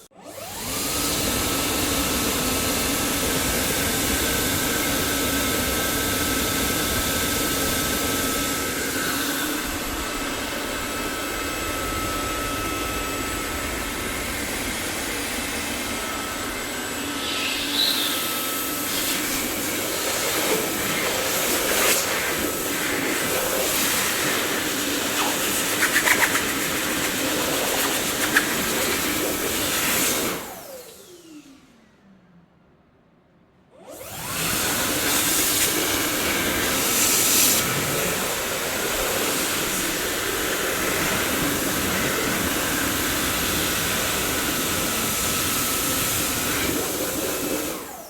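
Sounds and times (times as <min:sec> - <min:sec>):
vacuum cleaner whine: 0:00.0 - 0:32.1, 0:33.7 - 0:48.0.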